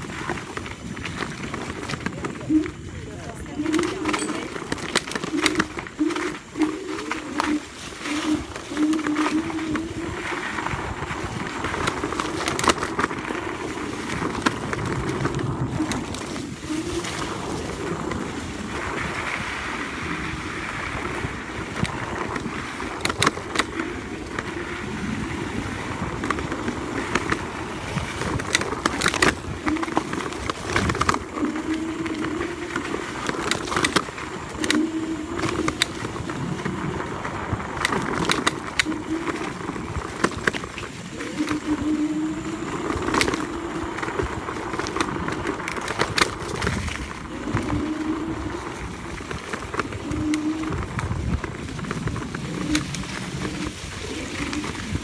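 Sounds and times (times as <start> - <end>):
low hum: 0.0 - 55.0
scooter rattling over bumps: 0.0 - 55.0
tyres rolling over dirt: 0.0 - 55.0.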